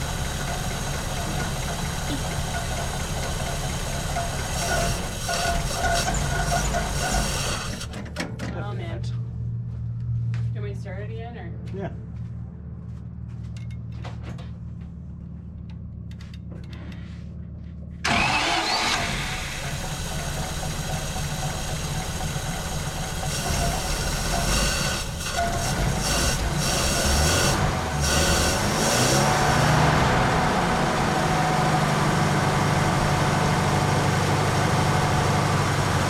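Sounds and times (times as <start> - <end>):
car engine running: 0.0 - 10.5, 11.3 - 36.0.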